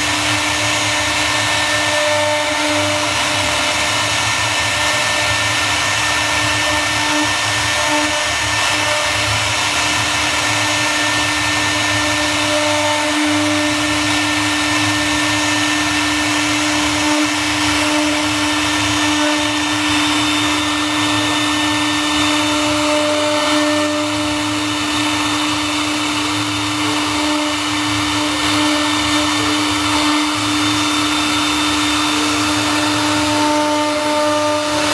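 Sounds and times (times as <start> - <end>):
bit cutting wood: 0.0 - 34.9
router spindle whine: 0.0 - 34.9.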